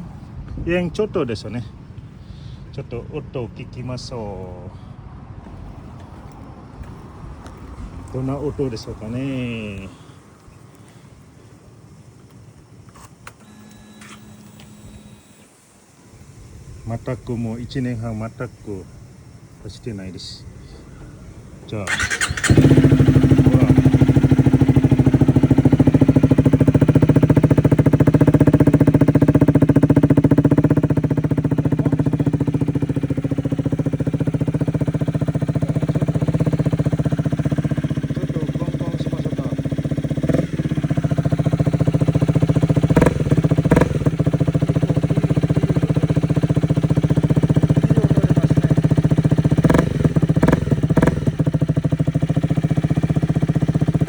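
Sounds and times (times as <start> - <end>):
motorcycle engine idling: 5.5 - 12.9, 15.6 - 54.0.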